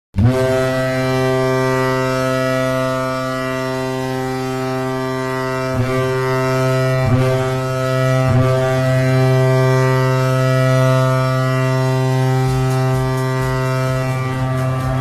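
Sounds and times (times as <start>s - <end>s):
hockey goal horn: 0.2s - 15.0s.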